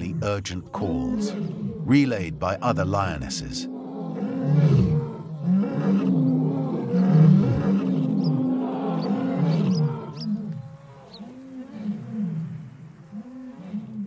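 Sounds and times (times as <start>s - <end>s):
lionesses roaring: 0.0s - 14.0s.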